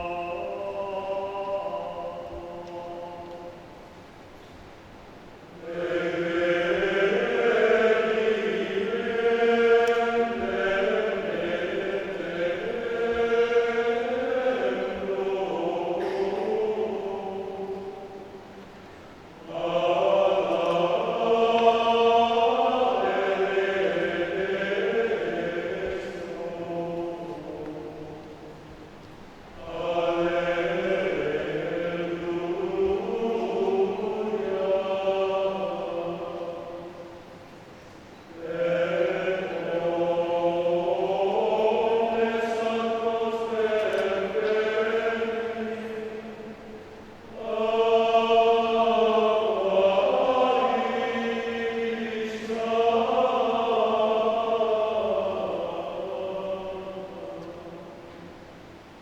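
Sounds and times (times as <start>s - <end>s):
men's choir singing: 0.0s - 4.0s, 5.5s - 59.0s.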